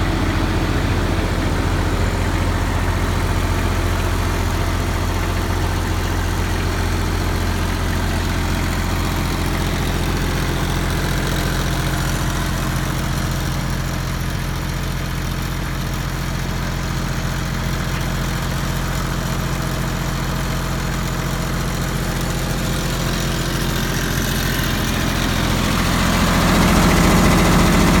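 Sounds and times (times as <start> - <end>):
diesel generator idling: 0.0 - 28.0.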